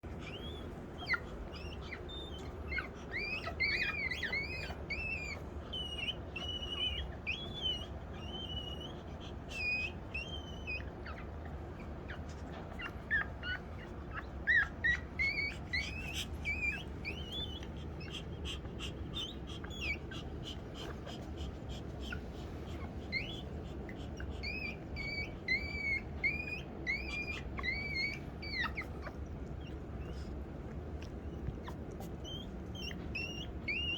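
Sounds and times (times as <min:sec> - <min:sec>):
faint low hum: 0:00.0 - 0:33.9
newborn animals squeaking: 0:00.0 - 0:33.9.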